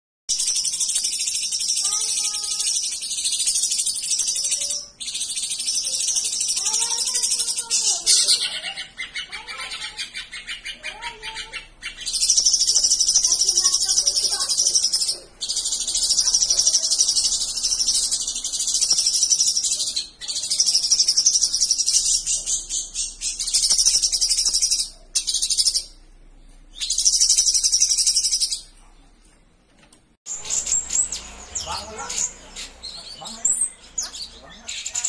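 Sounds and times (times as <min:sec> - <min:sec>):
bird singing warbling song: 0:00.3 - 0:29.2, 0:30.3 - 0:35.0.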